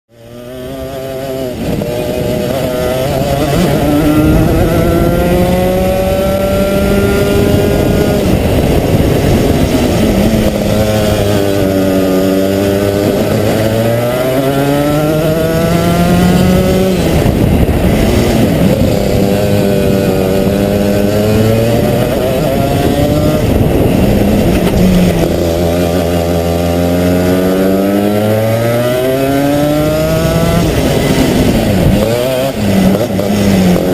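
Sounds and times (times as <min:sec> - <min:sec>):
kart engine accelerating: 0:00.1 - 0:33.9.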